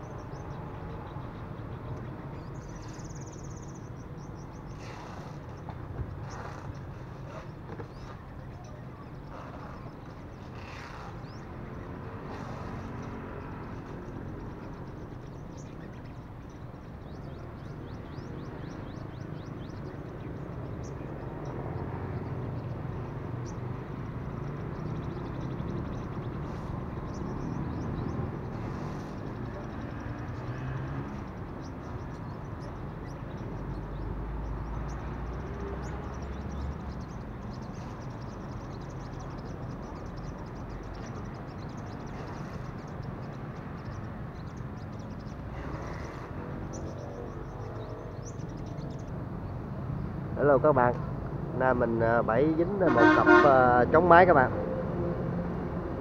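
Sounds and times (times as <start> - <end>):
road traffic rumbling: 0.0 - 56.0.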